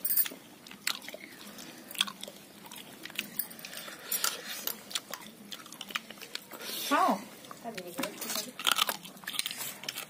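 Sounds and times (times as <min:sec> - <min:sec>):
chewing: 0:00.2 - 0:10.0.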